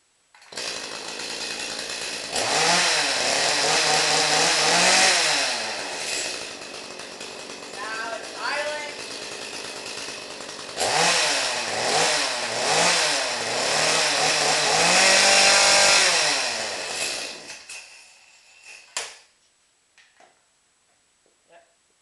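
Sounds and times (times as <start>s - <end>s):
chainsaw engine revving: 0.4s - 18.9s.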